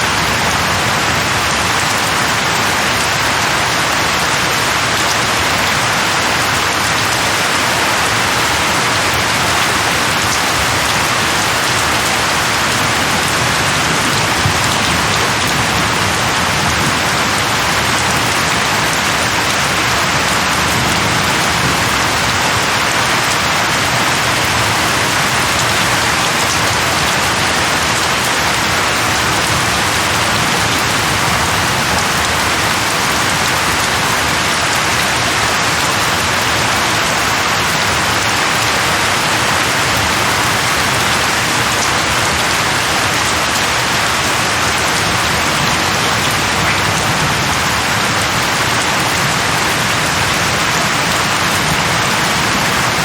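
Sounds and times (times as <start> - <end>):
heavy rain pattering on leaves: 0.0 - 53.0.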